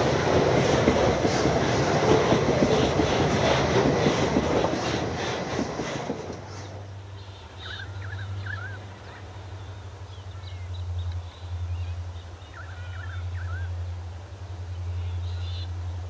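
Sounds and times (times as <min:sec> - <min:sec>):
distant locomotive engine drone: 0:00.0 - 0:16.0.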